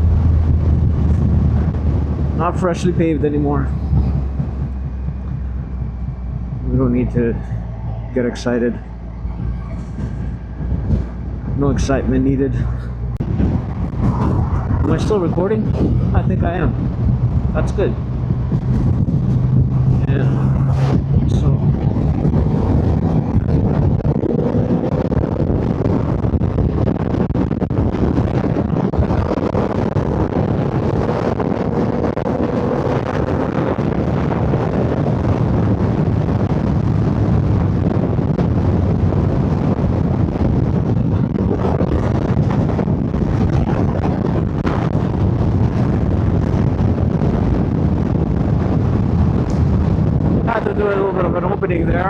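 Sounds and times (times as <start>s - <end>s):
motorcycle engine running hard: 0.0s - 12.2s, 12.9s - 51.0s
wind rushing: 0.0s - 52.0s.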